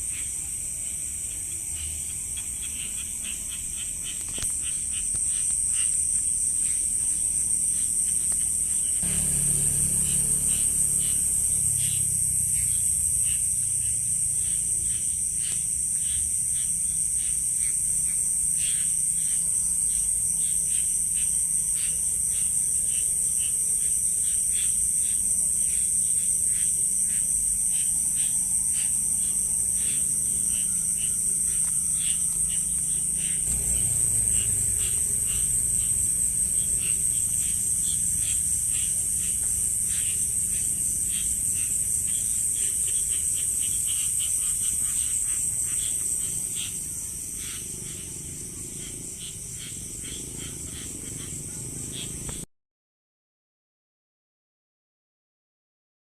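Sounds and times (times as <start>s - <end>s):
high-pitched insect trill: 0.0s - 52.5s.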